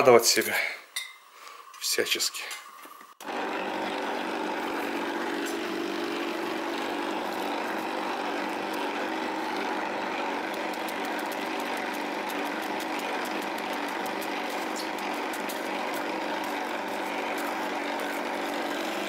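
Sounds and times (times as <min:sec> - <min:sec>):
electric meat grinder running: 0:03.2 - 0:19.0.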